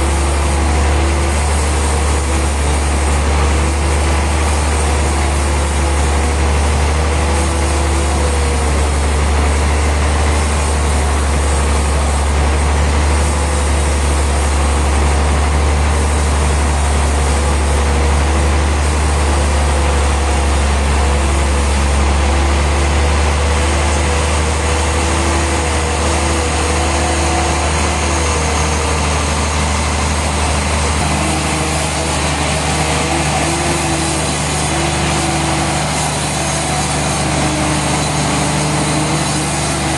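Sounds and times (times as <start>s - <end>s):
sawmill machinery engine droning: 0.0s - 39.9s.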